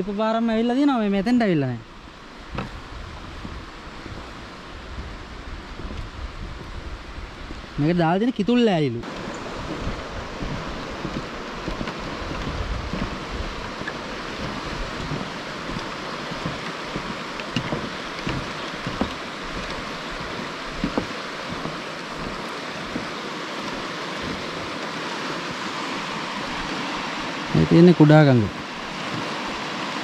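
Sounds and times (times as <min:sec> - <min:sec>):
river water rushing: 0:00.0 - 0:30.0
wind rumbling on microphone: 0:01.1 - 0:27.9.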